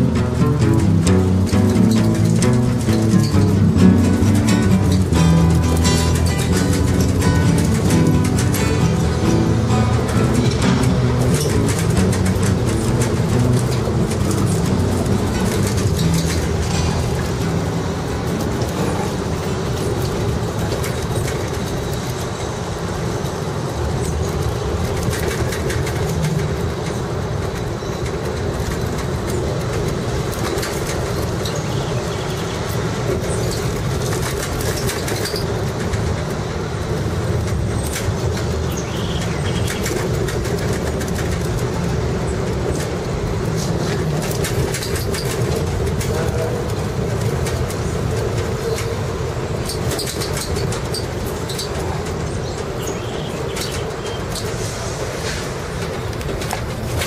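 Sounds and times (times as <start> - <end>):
funicular car rumbling: 0.0 - 57.0
wheels clicking and rattling on track: 0.0 - 57.0.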